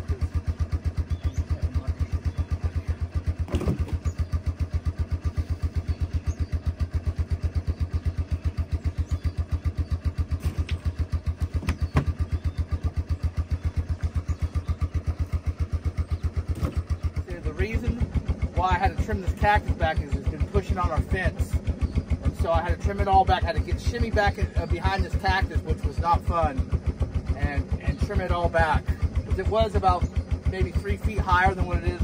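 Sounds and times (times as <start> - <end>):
atv engine idling: 0.0 - 32.0.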